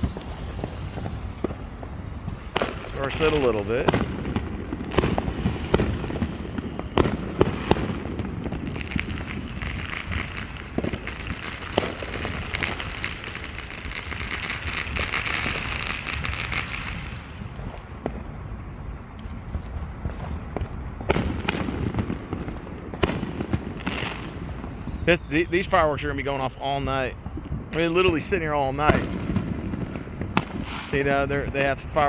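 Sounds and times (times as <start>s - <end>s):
firework bangs: 0.0s - 32.0s
firework crackling: 0.0s - 32.0s.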